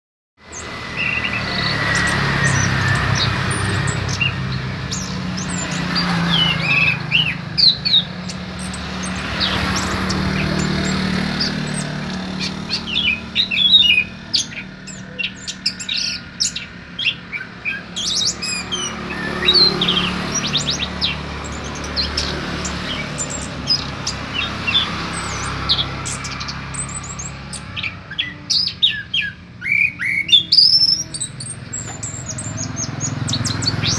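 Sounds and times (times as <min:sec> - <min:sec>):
songbird chirping and trilling: 0:00.4 - 0:33.9.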